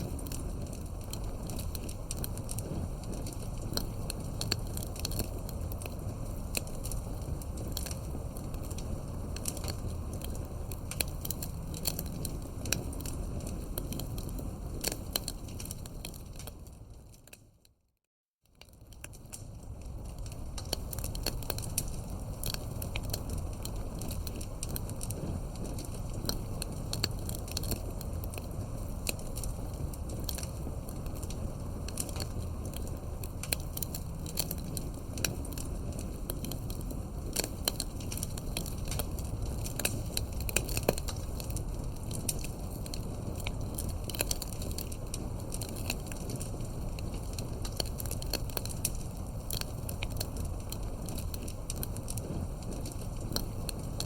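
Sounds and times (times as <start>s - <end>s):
low rumble: 0.0s - 17.1s, 18.8s - 54.0s
campfire crackling and popping: 0.0s - 17.5s, 18.5s - 54.0s.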